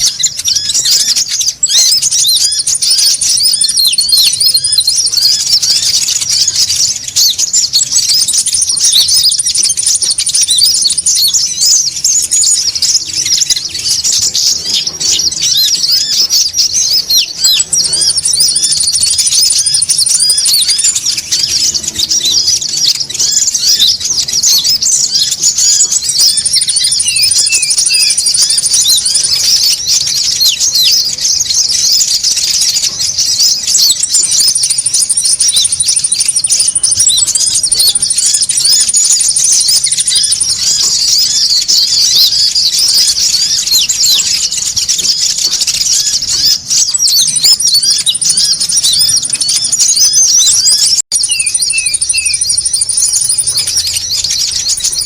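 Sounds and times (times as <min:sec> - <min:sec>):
flock of birds chattering: 0:00.0 - 0:55.0.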